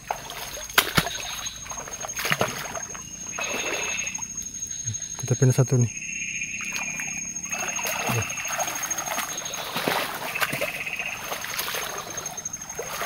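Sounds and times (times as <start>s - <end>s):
feet wading through water: 0.0s - 5.0s, 6.4s - 13.0s.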